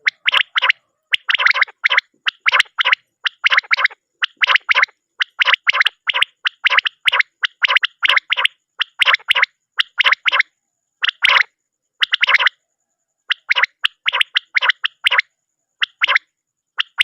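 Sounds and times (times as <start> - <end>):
quail calling raspy notes: 0.0 - 12.6, 13.3 - 17.0.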